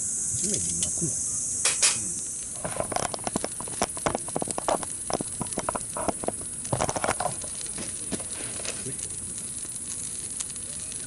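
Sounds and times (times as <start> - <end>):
insects chirring: 0.0 - 11.0
wood fire crackling and popping: 0.3 - 11.0.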